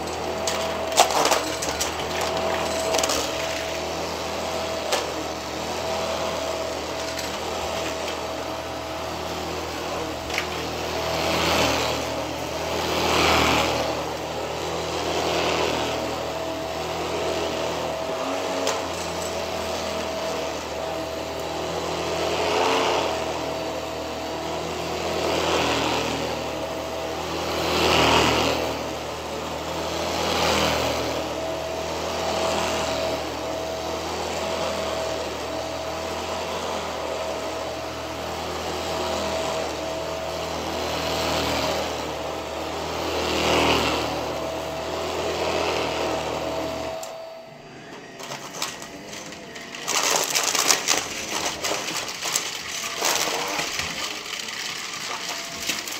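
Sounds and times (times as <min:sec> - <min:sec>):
vacuum cleaner on rug: 0:00.0 - 0:55.9.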